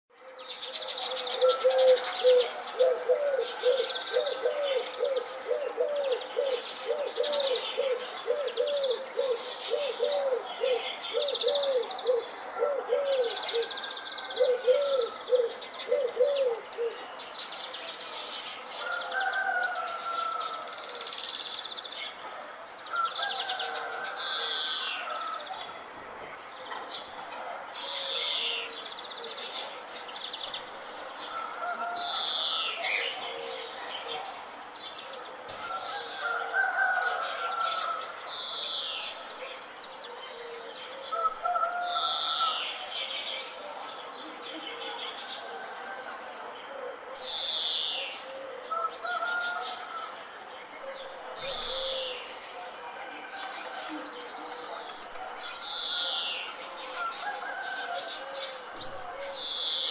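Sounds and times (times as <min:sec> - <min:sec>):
birds chirping and trilling: 0:00.2 - 0:22.2, 0:22.8 - 0:59.9.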